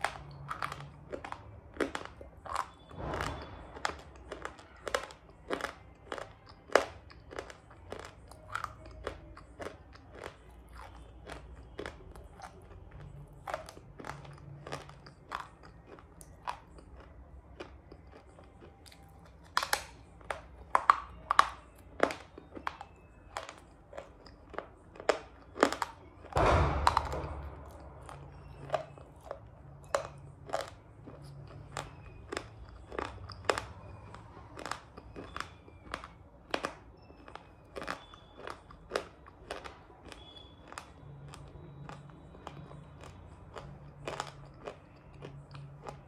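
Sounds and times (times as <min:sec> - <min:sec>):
chewing crunchy clay: 0:00.0 - 0:46.0.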